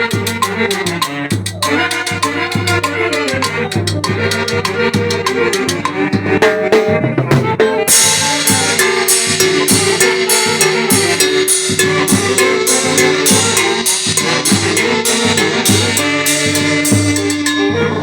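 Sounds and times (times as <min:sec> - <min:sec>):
latin dance band playing: 0:00.0 - 0:18.0
steady cymbal beat: 0:00.0 - 0:18.0.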